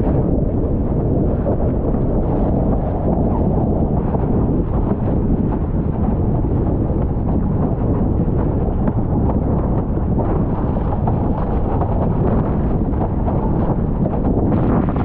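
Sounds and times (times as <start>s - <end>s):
wind buffeting camera microphone: 0.0s - 15.0s
board slapping choppy water: 0.2s - 15.0s.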